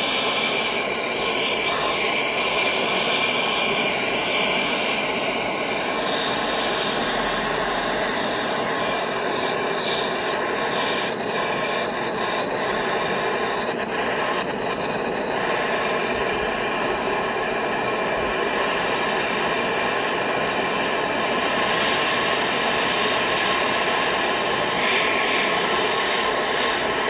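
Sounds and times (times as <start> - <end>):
gas torch flame hissing: 0.0 - 27.0.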